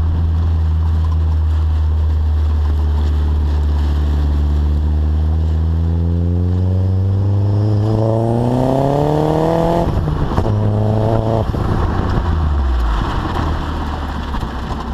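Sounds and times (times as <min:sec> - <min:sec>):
car exhaust accelerating: 0:00.0 - 0:14.9.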